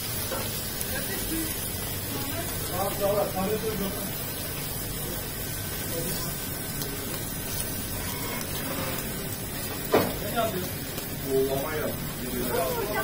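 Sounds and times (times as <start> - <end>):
lobster sizzling on a grill: 0.0 - 13.0.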